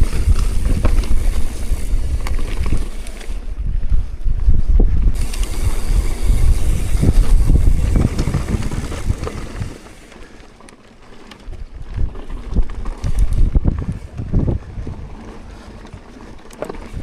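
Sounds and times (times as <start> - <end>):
wind buffeting microphone: 0.0 - 10.0, 11.5 - 17.0.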